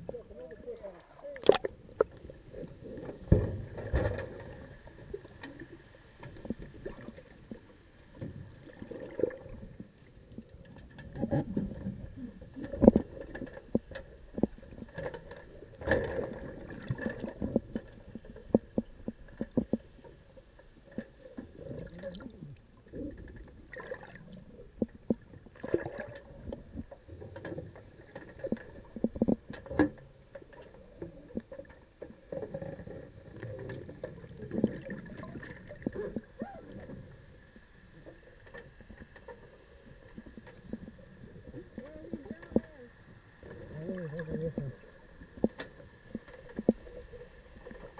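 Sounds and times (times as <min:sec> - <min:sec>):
faint steady hum: 0:00.0 - 0:47.9
underwater water rumble: 0:00.0 - 0:47.9.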